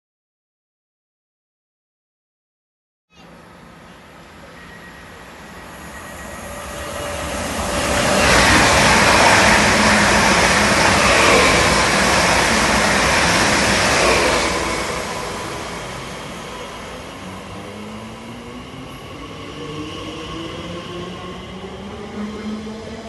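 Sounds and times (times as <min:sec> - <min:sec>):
train passing: 0:03.2 - 0:23.0.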